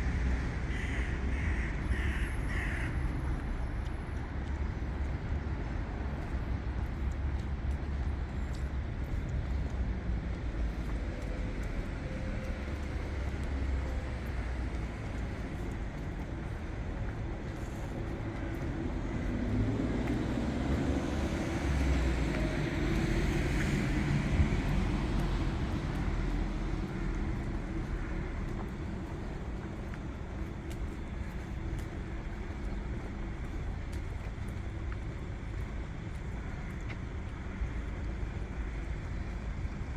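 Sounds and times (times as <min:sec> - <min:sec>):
hum of passing cars: 0:00.0 - 0:39.9.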